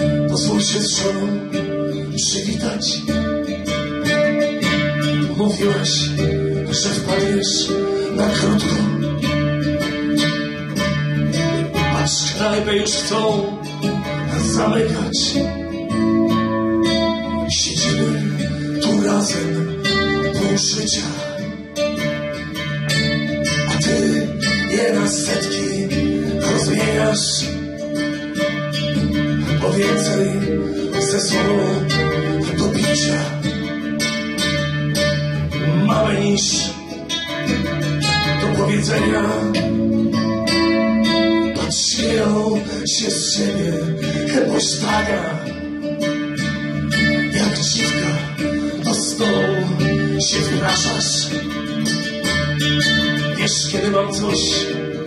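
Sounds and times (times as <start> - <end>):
man singing: 0.0 - 22.3, 23.3 - 28.2, 29.2 - 34.1, 35.4 - 55.0
strummed acoustic guitar: 0.0 - 55.0.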